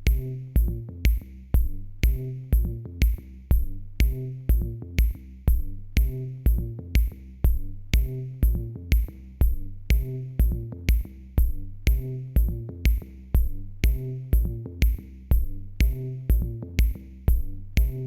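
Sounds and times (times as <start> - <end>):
electronic music with drum machine: 0.0 - 18.0.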